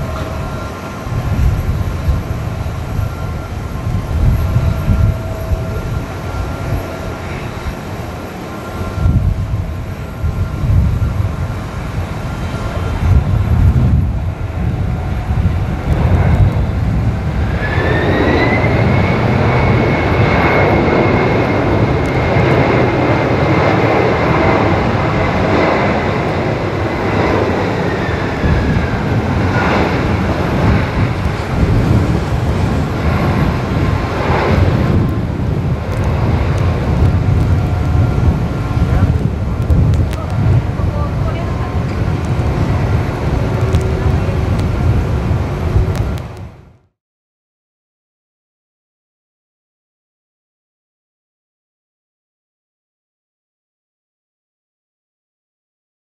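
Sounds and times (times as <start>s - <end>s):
jet engines roaring with rising whine: 0.0s - 46.9s.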